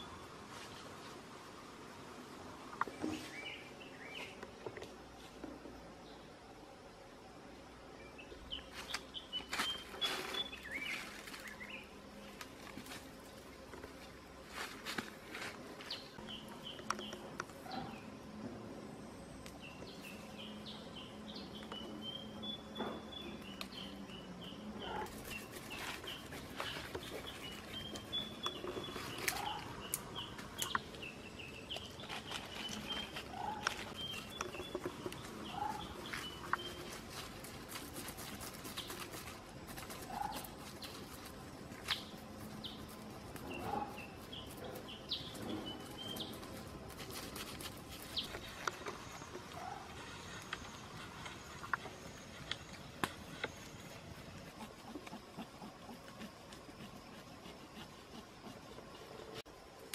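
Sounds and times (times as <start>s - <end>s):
birds chirping: 7.8s - 14.3s, 15.3s - 59.5s.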